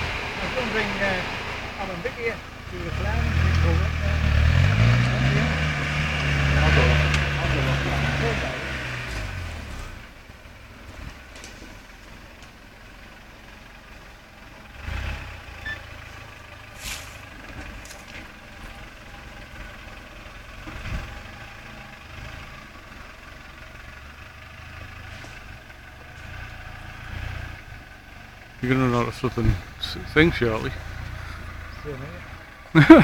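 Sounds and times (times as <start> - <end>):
off-road engine running at low revs: 0.0 - 33.0.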